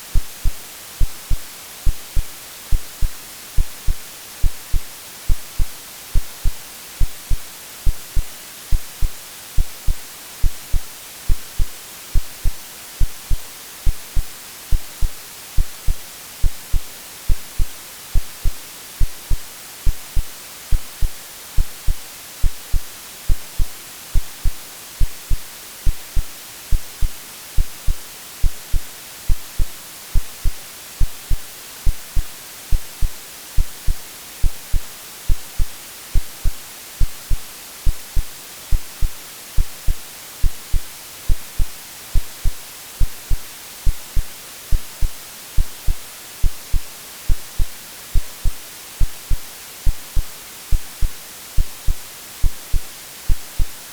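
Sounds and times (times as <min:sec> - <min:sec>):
white-noise hiss: 0:00.0 - 0:53.9
synthetic heartbeat thumps: 0:00.1 - 0:53.7.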